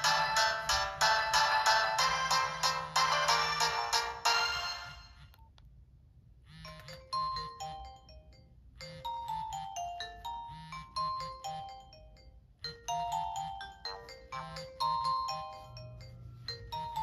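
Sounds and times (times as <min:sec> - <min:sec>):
busy ringtone tune: 0:00.0 - 0:05.4, 0:06.5 - 0:17.0
descending ringtone melody: 0:00.0 - 0:05.4, 0:06.5 - 0:17.0.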